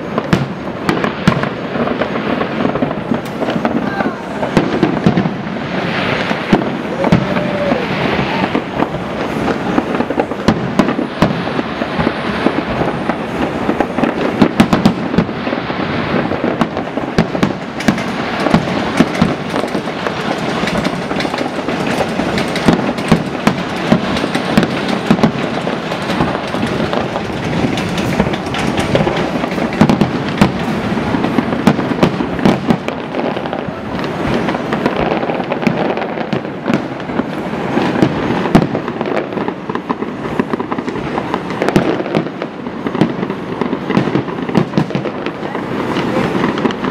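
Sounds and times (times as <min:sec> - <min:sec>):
fireworks bursting: 0:00.0 - 0:46.9.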